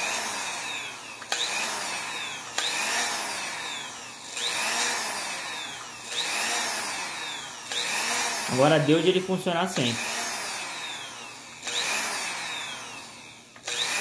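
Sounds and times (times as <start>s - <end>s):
sewing machine motor whining: 0.0s - 14.0s.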